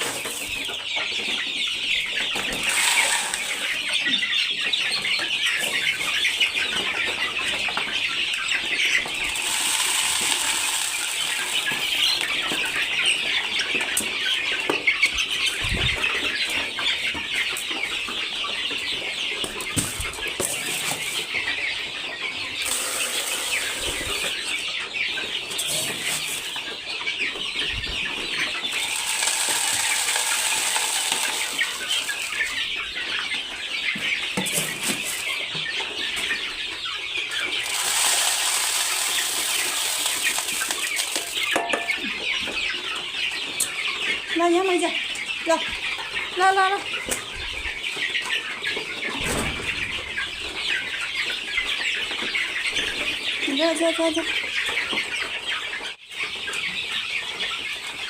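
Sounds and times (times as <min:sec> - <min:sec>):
chicks and chickens cheeping and clucking: 0:00.0 - 0:58.0.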